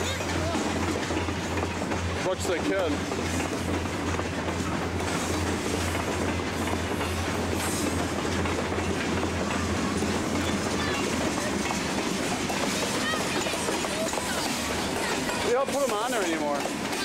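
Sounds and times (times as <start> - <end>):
diesel locomotive drone: 0.0 - 17.0
train wheels clattering on rails: 0.0 - 17.0.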